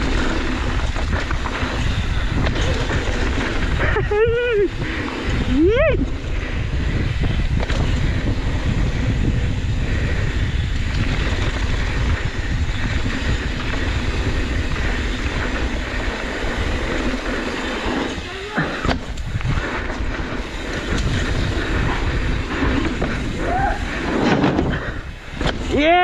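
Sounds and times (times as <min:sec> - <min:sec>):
bike tyre rumble on dirt: 0:00.0 - 0:26.0
wind rushing on microphone: 0:00.0 - 0:26.0.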